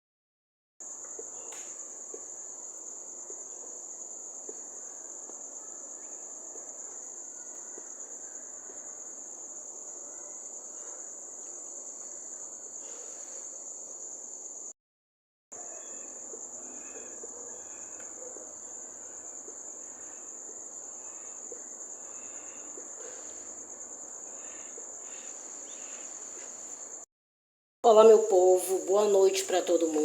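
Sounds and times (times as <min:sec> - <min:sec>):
high-pitched insect chorus: 0:00.8 - 0:14.8, 0:15.6 - 0:27.1, 0:27.9 - 0:30.0.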